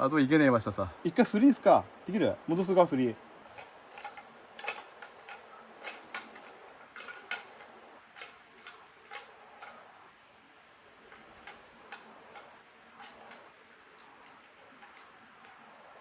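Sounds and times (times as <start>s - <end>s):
hand hoist ratchet clicks: 1.1s - 9.8s, 11.0s - 15.1s.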